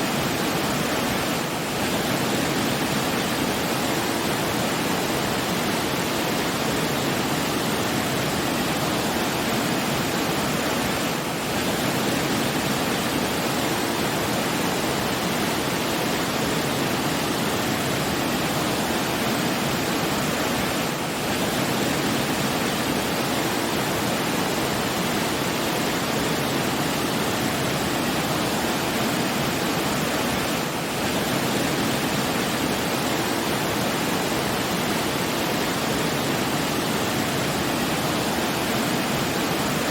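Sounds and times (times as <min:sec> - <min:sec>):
rushing falling water: 0:00.0 - 0:39.9.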